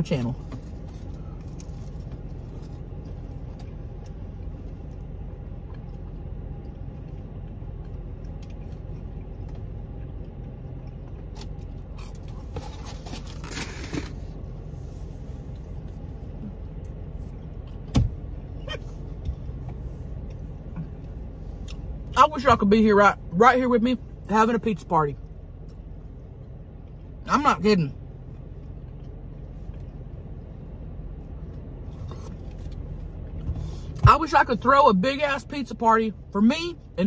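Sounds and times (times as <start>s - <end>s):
low rumble: 0.0s - 34.6s.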